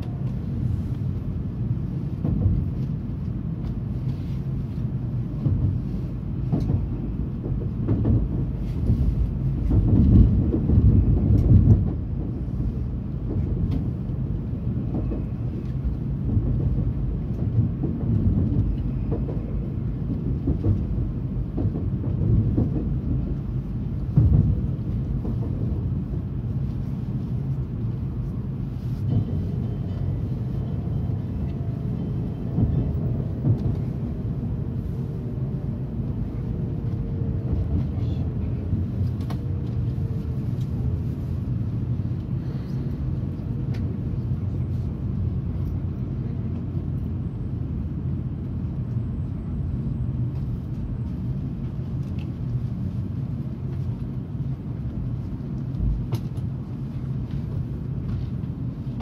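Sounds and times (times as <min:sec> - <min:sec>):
train rumble from inside carriage: 0:00.0 - 0:59.0.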